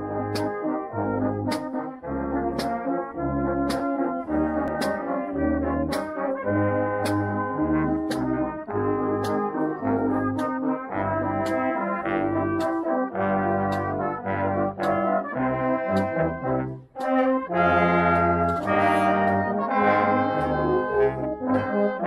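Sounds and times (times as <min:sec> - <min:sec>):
brass band playing slow chords: 0:00.0 - 0:22.0
snare drum beats: 0:00.2 - 0:22.0.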